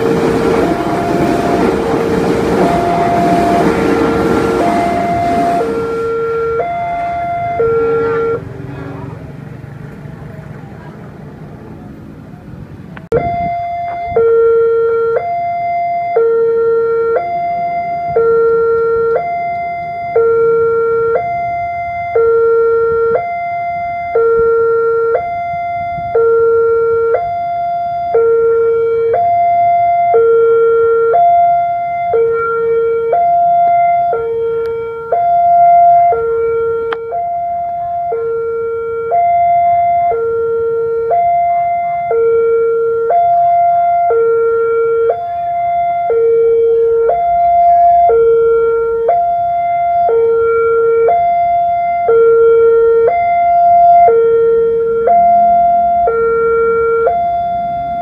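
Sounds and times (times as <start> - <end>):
level-crossing two-tone alarm: 0.0 - 8.7, 13.1 - 58.0.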